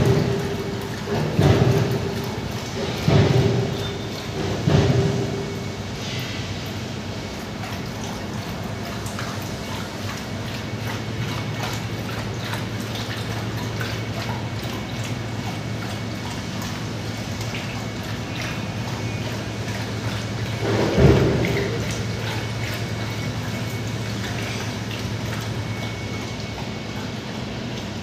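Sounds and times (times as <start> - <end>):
dogs lapping from metal basins: 0.0 - 28.0.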